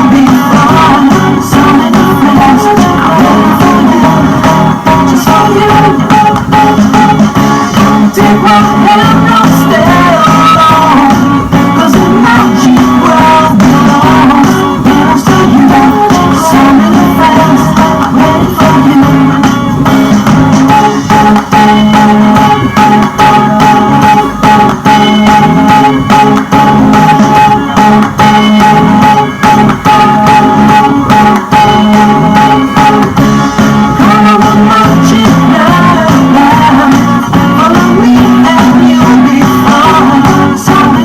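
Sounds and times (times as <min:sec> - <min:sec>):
song with singing and guitar: 0:00.0 - 0:41.0.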